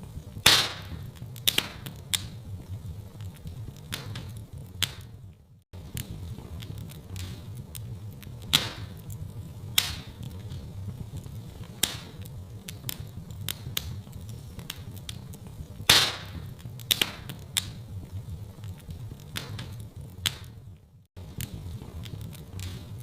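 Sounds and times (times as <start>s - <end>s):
steady low rumble: 0.0s - 23.0s
wood fire crackling and popping: 0.0s - 23.0s.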